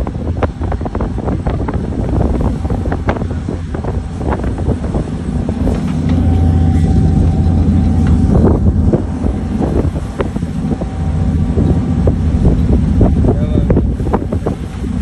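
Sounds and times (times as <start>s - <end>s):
ferry engine droning: 0.0s - 15.0s
wind buffeting microphone: 0.0s - 15.0s.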